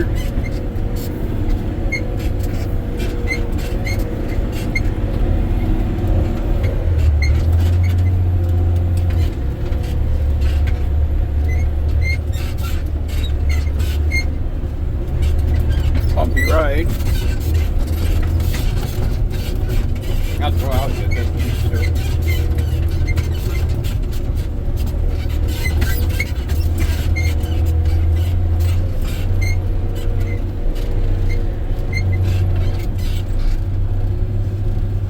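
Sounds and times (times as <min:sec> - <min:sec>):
cab rattles and squeaks: 0:00.0 - 0:35.0
diesel truck engine droning: 0:00.0 - 0:35.0.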